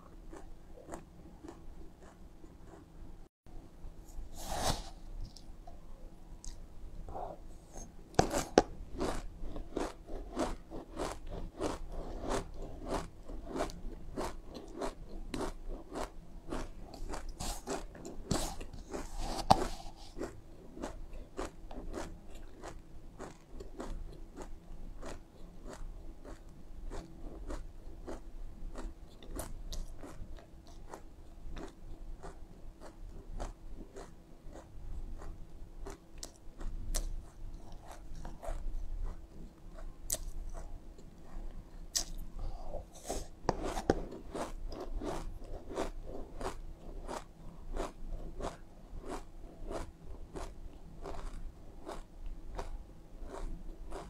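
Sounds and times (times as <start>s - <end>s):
chewing crunchy seeds: 0.0s - 2.9s, 8.2s - 54.0s.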